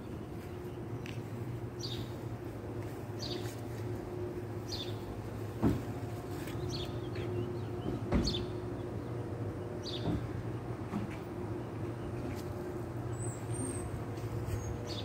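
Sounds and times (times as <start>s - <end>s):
birds chirping: 0.0s - 15.0s
low mechanical hum: 0.0s - 15.0s.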